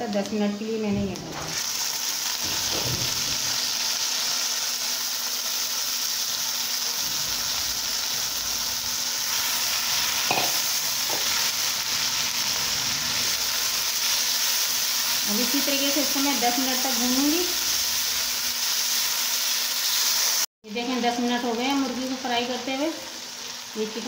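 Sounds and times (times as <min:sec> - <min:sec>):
chicken and onions sizzling: 0:00.0 - 0:24.0.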